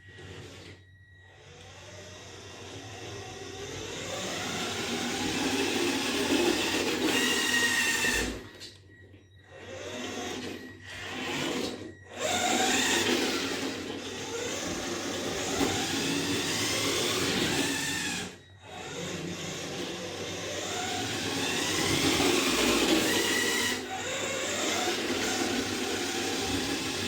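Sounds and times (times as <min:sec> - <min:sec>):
toy car motor whining: 0:00.0 - 0:27.0.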